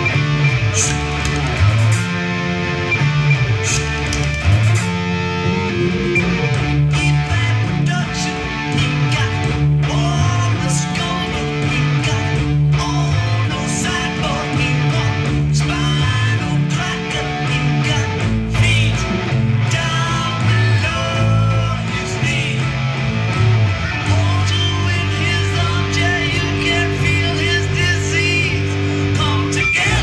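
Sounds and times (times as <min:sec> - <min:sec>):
electric guitar lead lines: 0:00.0 - 0:30.0
repeating bass line: 0:00.0 - 0:30.0.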